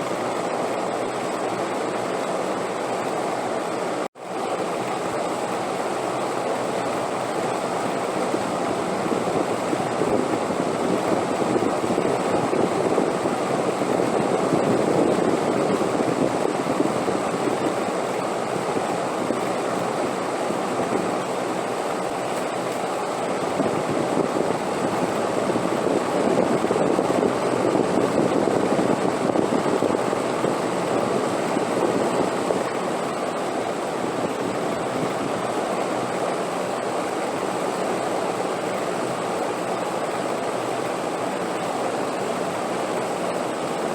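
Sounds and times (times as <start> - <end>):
rushing wind in gusts: 0.0 - 43.9.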